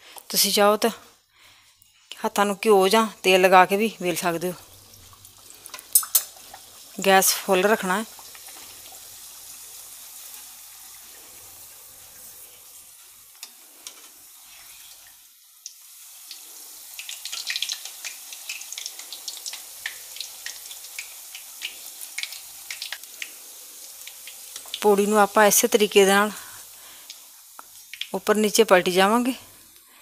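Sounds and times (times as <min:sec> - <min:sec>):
dough sizzling in hot oil: 0:03.1 - 0:30.0.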